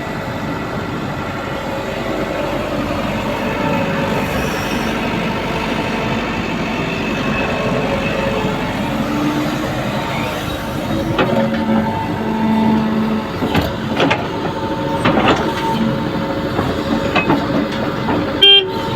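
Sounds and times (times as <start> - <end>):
excavator engine running: 0.0 - 18.9
faint machinery whine: 0.0 - 18.9.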